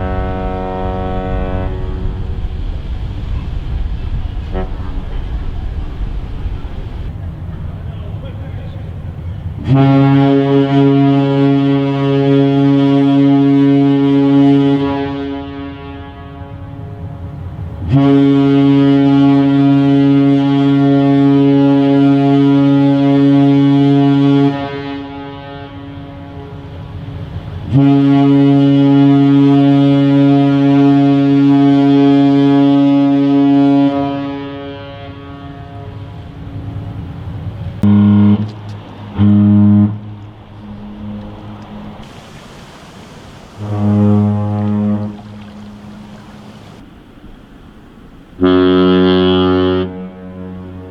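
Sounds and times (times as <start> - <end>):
deep ferry horn blast: 0.0 - 7.7, 8.8 - 42.4, 43.4 - 46.8, 48.4 - 50.9.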